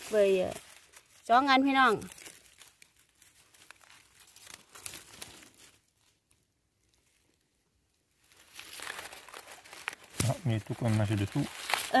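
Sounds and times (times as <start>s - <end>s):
rustling of dry leaves: 0.0s - 12.0s.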